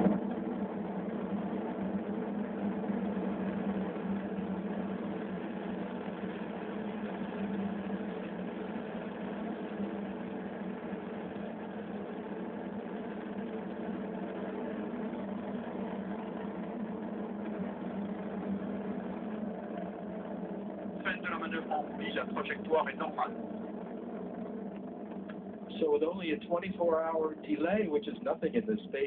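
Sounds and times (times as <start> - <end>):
rocket engine roar through speaker: 0.0 - 29.0.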